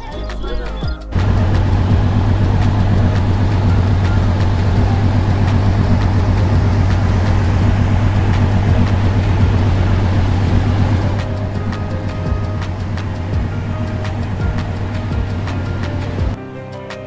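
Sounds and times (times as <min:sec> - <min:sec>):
car engine running: 0:01.2 - 0:16.4.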